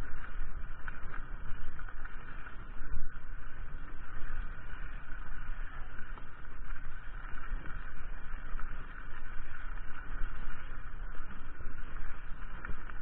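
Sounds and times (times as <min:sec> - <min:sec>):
mountain bike rumbling on trail: 0:00.0 - 0:13.0.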